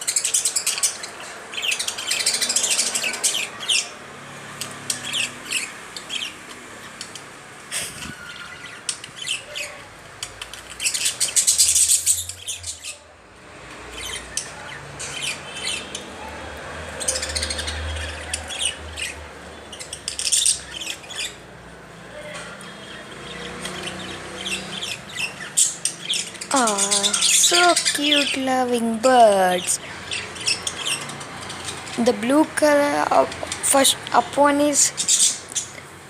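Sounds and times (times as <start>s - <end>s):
parrots chirping and squawking: 0.0s - 36.0s.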